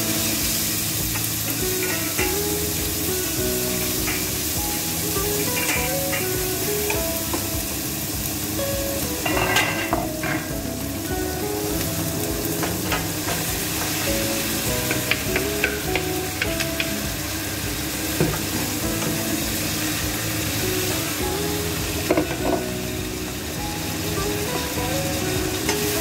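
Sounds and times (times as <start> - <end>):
chicken sizzling in a pot: 0.0 - 26.0
soft background music: 0.0 - 26.0.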